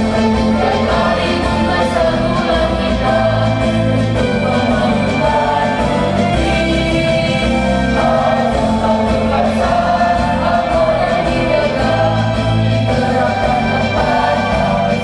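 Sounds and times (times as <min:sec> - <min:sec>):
crowd singing: 0:00.0 - 0:15.0
instrumental accompaniment: 0:00.0 - 0:15.0.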